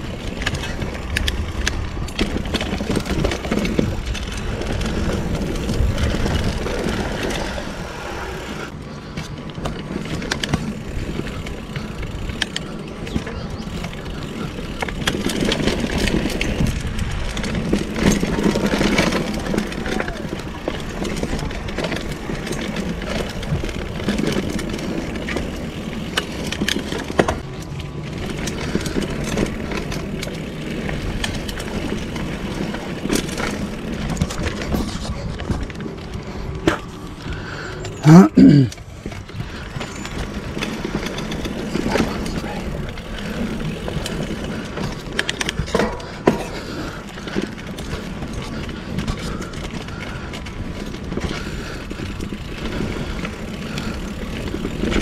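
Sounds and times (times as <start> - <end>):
bike rattling over bumps: 0.0 - 55.0
bike tyre noise on dirt: 0.0 - 55.0.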